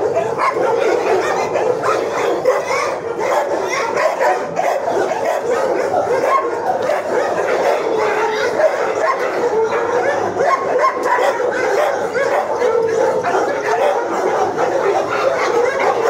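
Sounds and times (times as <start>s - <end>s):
many dogs barking and yipping: 0.0s - 16.0s.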